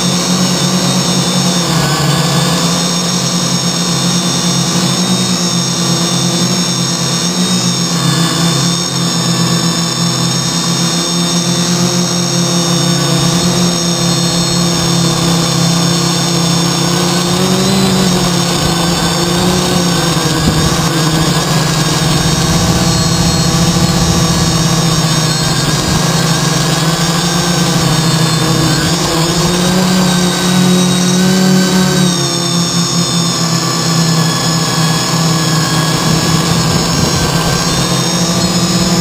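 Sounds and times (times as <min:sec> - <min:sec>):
drone motors and propellers whirring: 0:00.0 - 0:39.0.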